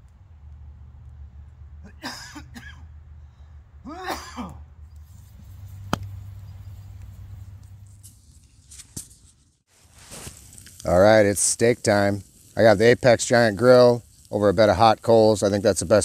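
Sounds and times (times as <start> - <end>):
woodland ambience: 1.5 - 16.0.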